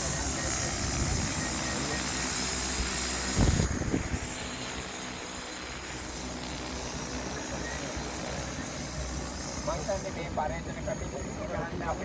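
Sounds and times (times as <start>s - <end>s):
drone rotors hissing: 0.0s - 12.0s.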